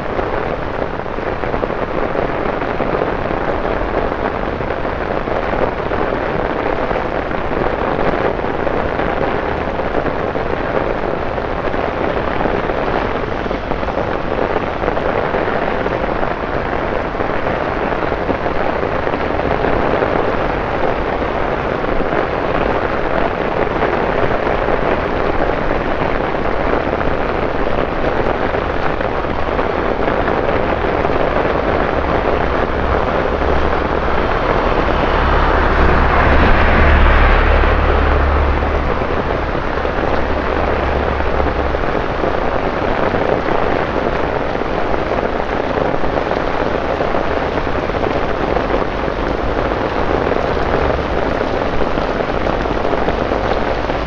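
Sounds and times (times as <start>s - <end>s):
bus driving past on wet road: 0.0s - 54.0s
torrential rain on pavement: 0.0s - 54.0s.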